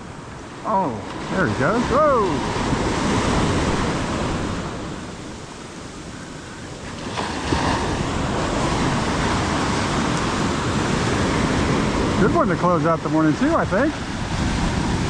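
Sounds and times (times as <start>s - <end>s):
ocean surf breaking: 0.0s - 15.0s
wind on microphone: 0.0s - 15.0s.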